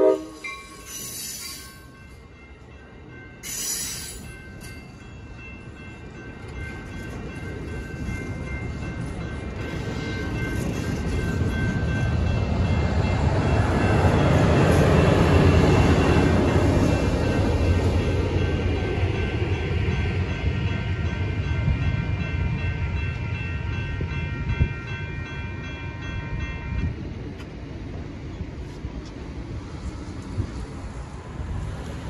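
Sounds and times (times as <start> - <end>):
crossing bell ringing: 0.0 - 27.4
diesel locomotive passing: 0.0 - 32.0
train cars rolling past: 0.0 - 32.0.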